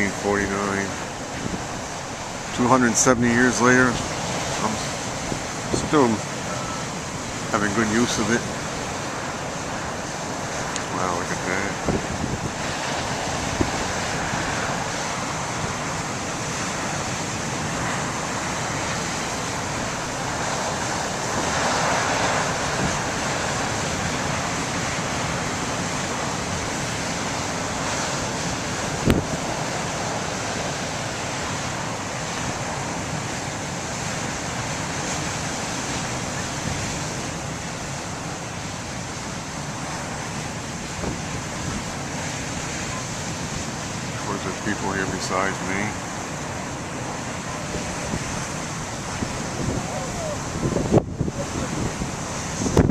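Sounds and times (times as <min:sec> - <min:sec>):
surf breaking and rushing: 0:00.0 - 0:52.9
wind gusting on microphone: 0:00.0 - 0:52.9.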